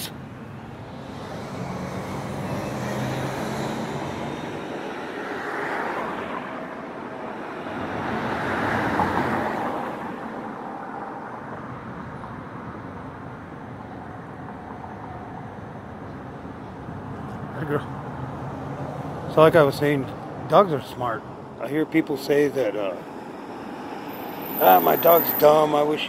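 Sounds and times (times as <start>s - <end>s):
cars passing: 0.0s - 26.0s
steady traffic hum: 0.0s - 26.0s.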